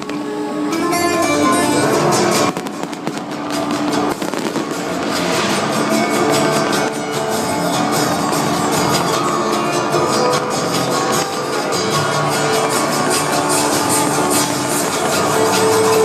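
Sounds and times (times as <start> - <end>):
fireworks popping and crackling: 0.0 - 16.0
loud music over sound system: 1.4 - 16.0.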